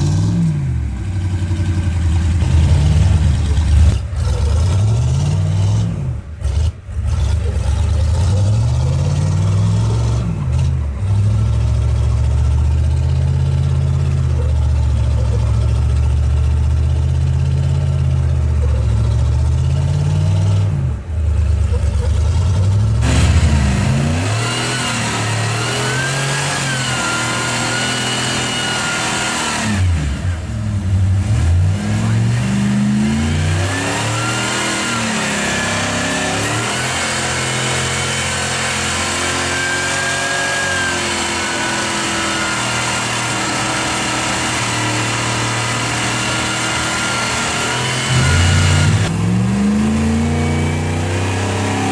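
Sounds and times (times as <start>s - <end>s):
buggy engine revving: 0.0s - 51.9s
tyres churning in sand: 0.0s - 51.9s.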